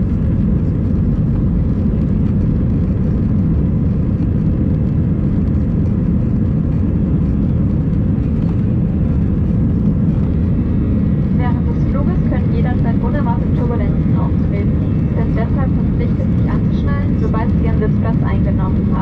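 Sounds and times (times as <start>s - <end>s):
jet engine and airflow rumble: 0.0s - 19.0s.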